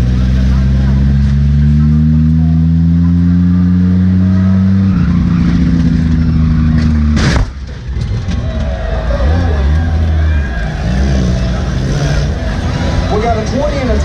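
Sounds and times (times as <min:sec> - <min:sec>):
car engines running loud: 0:00.0 - 0:14.0.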